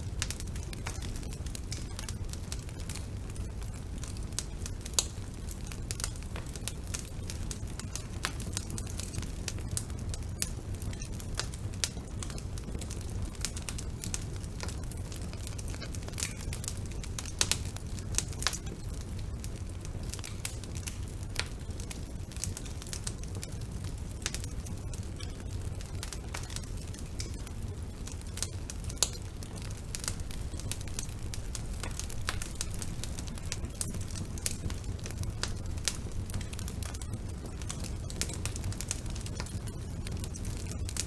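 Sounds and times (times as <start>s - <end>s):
low rumble of flames: 0.0s - 41.0s
wood fire crackling and popping: 0.0s - 41.0s.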